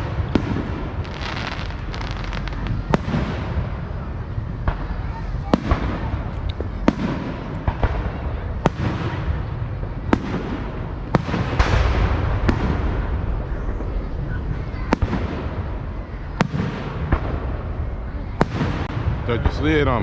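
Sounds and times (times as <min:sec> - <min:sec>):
fireworks bangs: 0:00.0 - 0:20.0
low background rumble: 0:00.0 - 0:20.0.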